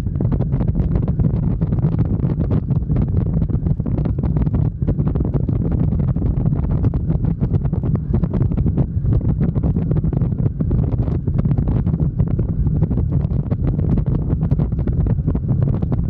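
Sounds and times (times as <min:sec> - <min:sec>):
low drone from motorcycle: 0:00.0 - 0:16.0
wind buffeting microphone: 0:00.0 - 0:16.0.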